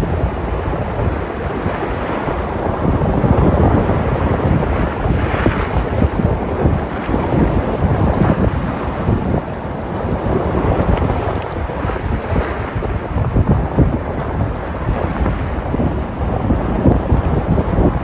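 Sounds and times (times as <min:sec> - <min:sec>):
sea surf breaking on shore: 0:00.0 - 0:18.0
wind buffeting microphone: 0:00.0 - 0:18.0.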